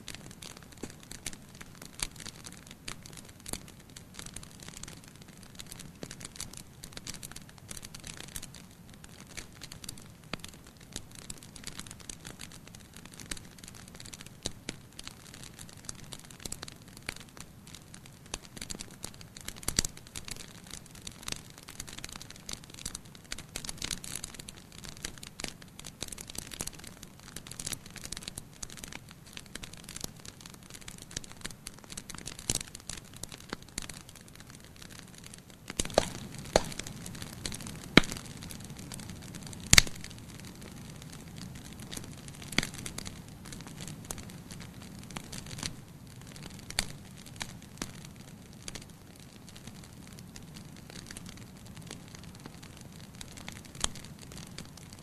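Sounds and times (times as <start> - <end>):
sharp snaps and pops: 0.0 - 55.0
steady hiss of burning: 0.0 - 55.0
wood fire crackling: 0.0 - 55.0.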